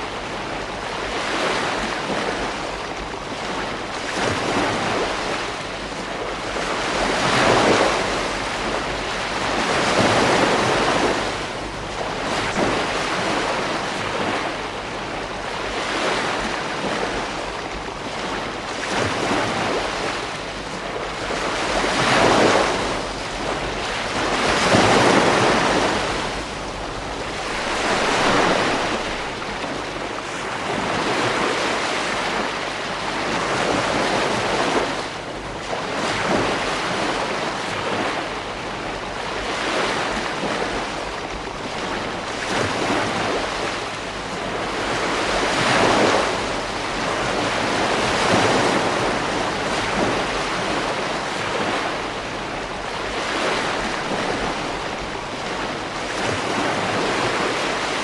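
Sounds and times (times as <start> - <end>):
ocean waves breaking on beach: 0.0 - 58.0
wind on microphone: 0.0 - 58.0.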